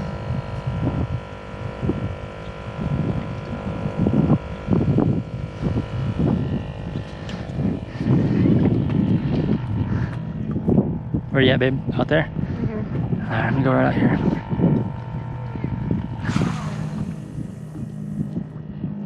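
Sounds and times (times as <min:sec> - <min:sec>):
steady mechanical hum: 0:00.0 - 0:19.0
wind gusting across microphone: 0:00.0 - 0:19.0.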